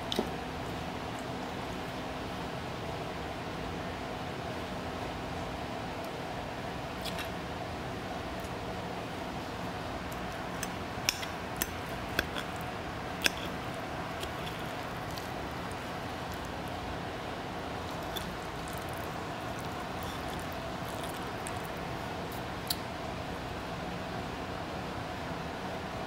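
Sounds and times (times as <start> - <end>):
room hum: 0.0 - 26.0.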